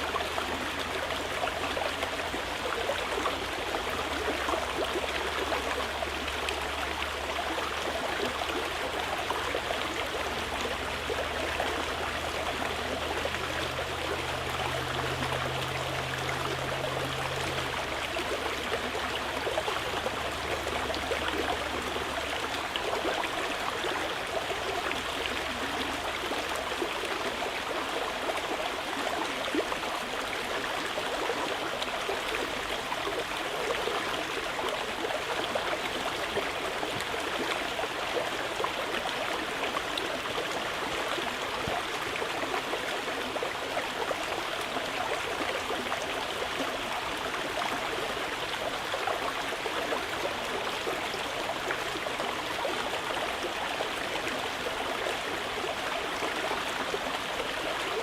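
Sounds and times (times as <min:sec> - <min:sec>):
river rushing over rocks: 0:09.6 - 0:58.0.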